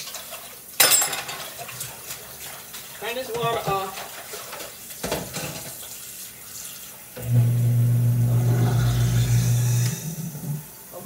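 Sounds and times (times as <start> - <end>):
faucet water running: 0.0 - 11.0.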